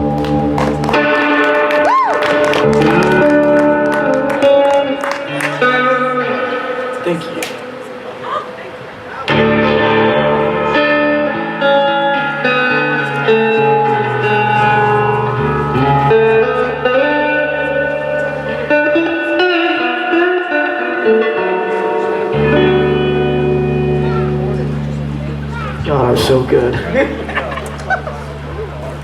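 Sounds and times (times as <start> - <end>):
strummed guitar chords: 0.0 - 29.0.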